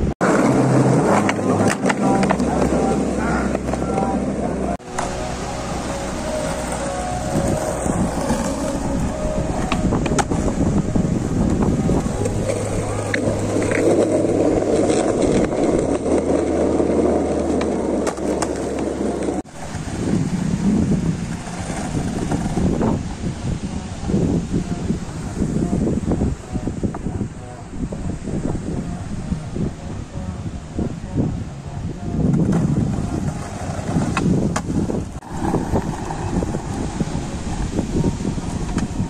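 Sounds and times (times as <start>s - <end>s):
skateboard wheels rolling on concrete: 0.0s - 39.0s.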